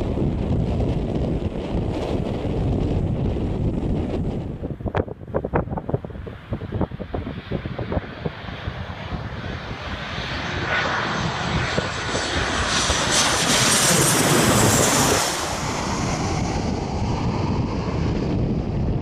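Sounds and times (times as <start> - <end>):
high jet engine whine: 0.0 - 19.0
jet airliner passing overhead: 0.0 - 19.0.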